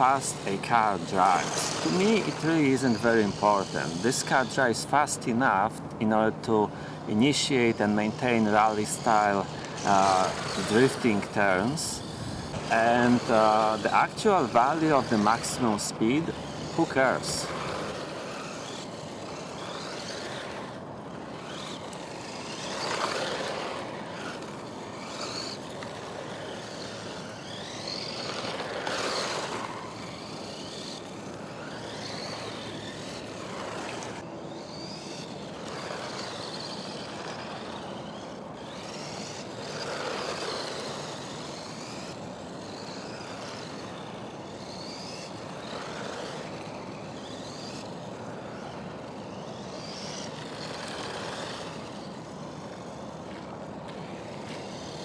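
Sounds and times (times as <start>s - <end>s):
toy car electric motor whining: 0.0s - 55.0s
tyres on dirt: 0.0s - 55.0s.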